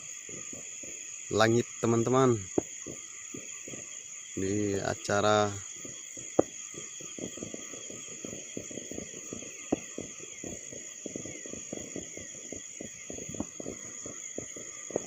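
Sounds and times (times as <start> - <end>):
crickets chirring: 0.0 - 15.0
distant fireworks crackling: 0.0 - 15.0
fireworks bangs: 0.0 - 15.0.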